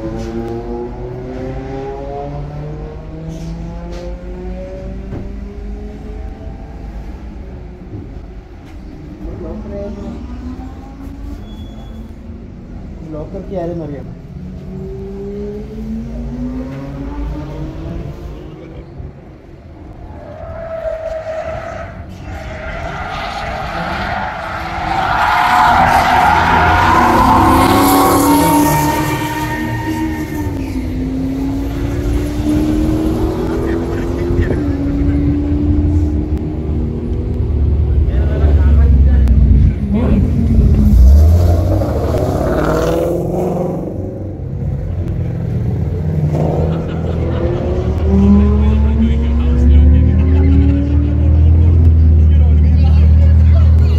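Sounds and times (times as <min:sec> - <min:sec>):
race car engines: 0:00.0 - 0:53.9.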